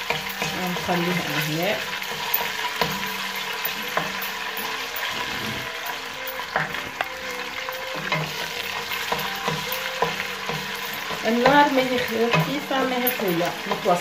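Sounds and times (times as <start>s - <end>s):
spoon knocking on pot: 0.0s - 4.8s, 5.9s - 14.0s
paste sizzling in hot oil: 0.0s - 14.0s.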